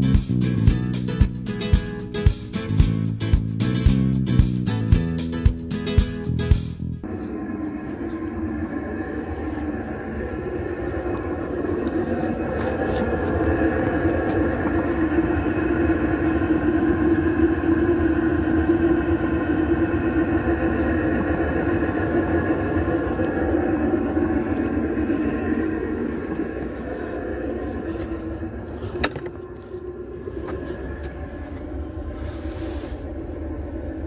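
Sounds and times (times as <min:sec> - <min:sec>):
diesel air heater humming: 0:00.0 - 0:34.0.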